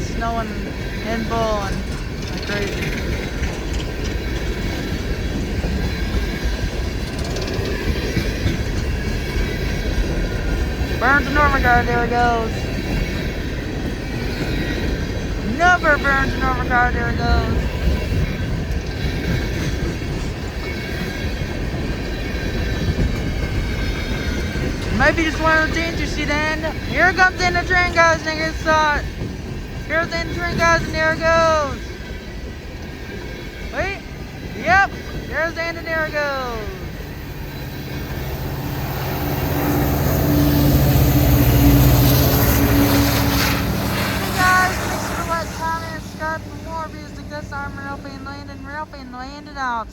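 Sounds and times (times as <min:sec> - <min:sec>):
diesel locomotive engine drone: 0:00.0 - 0:49.9
freight train wheels rumbling on rail: 0:00.0 - 0:49.9.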